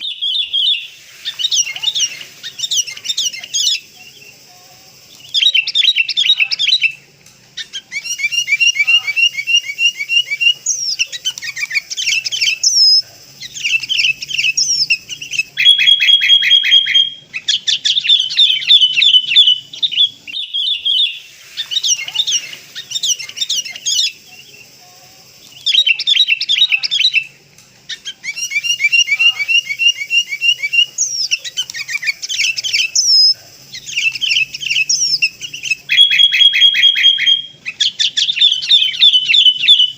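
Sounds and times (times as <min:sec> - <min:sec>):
bird chirps and trills: 0:00.0 - 0:07.0, 0:07.6 - 0:39.9.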